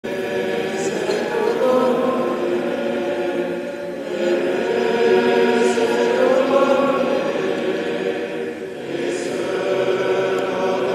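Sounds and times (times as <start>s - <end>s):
group singing a hymn: 0.0s - 10.9s.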